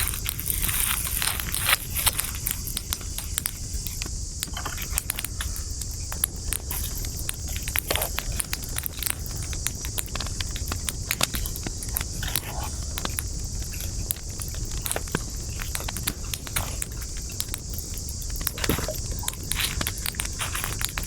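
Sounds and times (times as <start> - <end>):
campfire crackling and popping: 0.0 - 21.0
low rumble of flames: 0.0 - 21.0
steady high hiss: 0.0 - 21.0.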